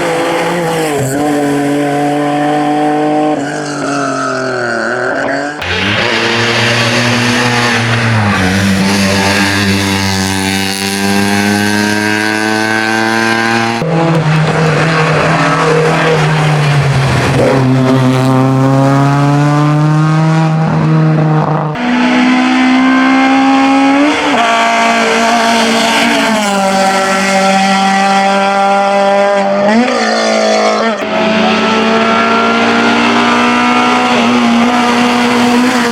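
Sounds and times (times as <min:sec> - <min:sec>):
race car engines accelerating: 0:00.0 - 0:35.9.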